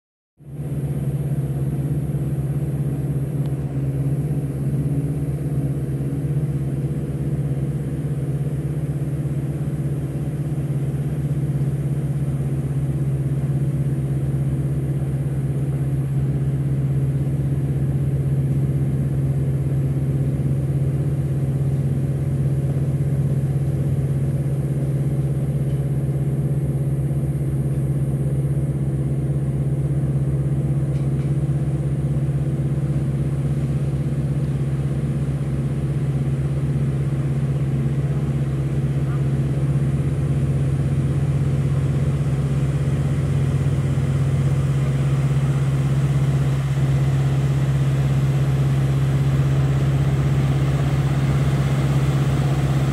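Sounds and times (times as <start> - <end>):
boat engine droning: 0.4 - 52.9.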